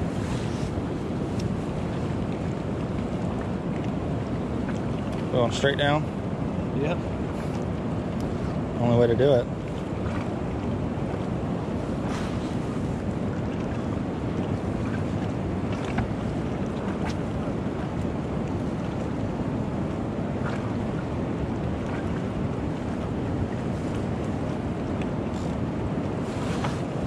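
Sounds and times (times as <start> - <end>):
fast river water: 0.0 - 27.0
wind buffeting microphone: 0.0 - 27.0.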